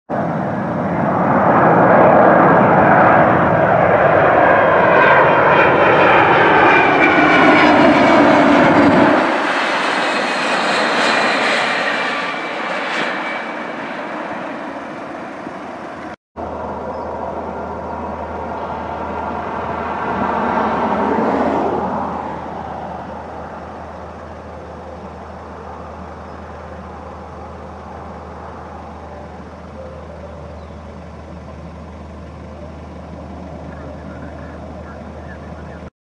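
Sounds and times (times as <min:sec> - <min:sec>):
jet engines whining: 0:00.1 - 0:35.9.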